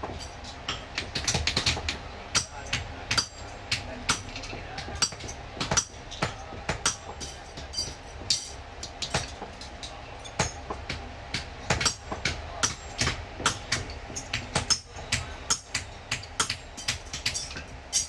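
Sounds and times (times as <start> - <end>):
low workshop hum: 0.0 - 18.0.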